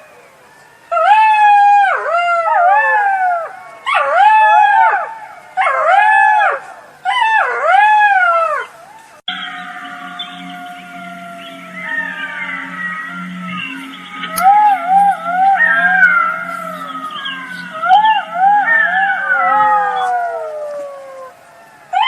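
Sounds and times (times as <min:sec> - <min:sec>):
jackals howling in chorus: 0:00.0 - 0:22.0.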